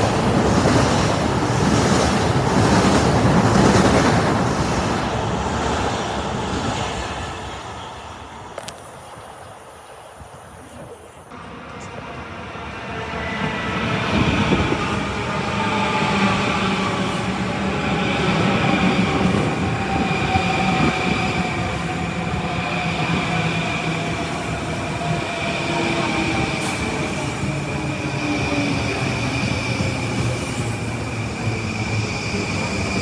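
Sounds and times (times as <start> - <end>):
train running: 0.0 - 33.0.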